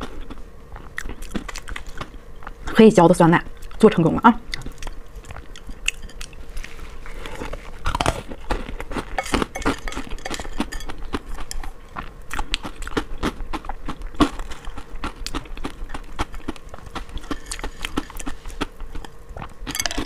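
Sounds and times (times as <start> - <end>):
person chewing crunchy food: 0.0 - 2.6, 4.5 - 20.0.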